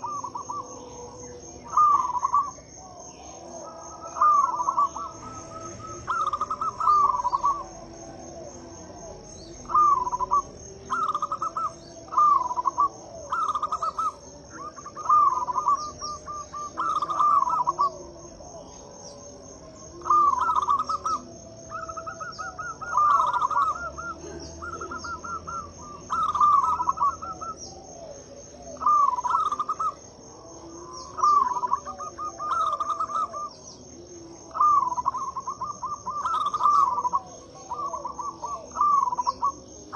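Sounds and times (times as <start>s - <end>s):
dove cooing: 0.0s - 39.9s
high pulsing insect trill: 0.0s - 39.9s.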